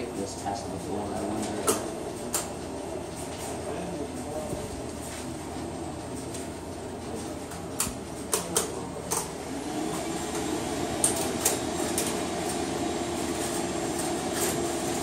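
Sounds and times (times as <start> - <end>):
steady equipment hum: 0.0 - 15.0.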